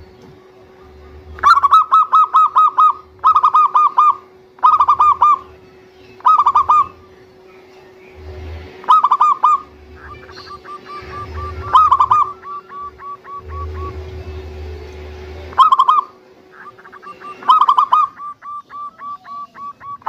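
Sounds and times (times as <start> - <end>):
dove cooing: 0.4 - 7.2, 8.2 - 14.8, 15.4 - 20.0.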